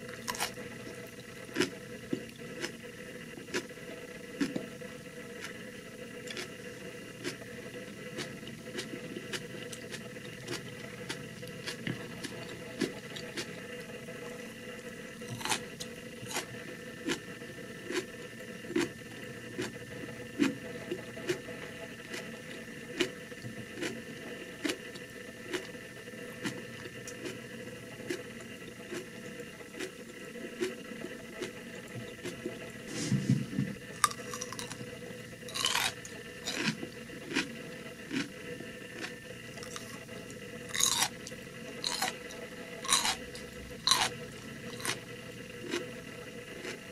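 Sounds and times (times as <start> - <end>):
chewing crisp pickles: 0.0 - 2.8, 3.4 - 5.6, 6.2 - 25.8, 26.4 - 32.8, 33.8 - 46.9.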